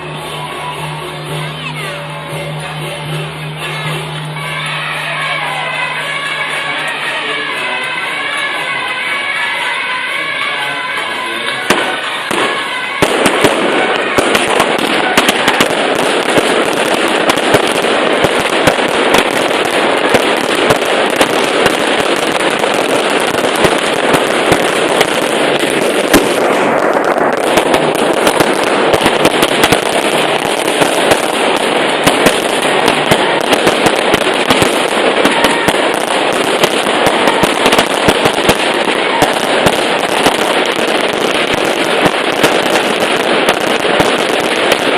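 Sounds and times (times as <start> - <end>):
fireworks and firecrackers banging: 0.0 - 44.9.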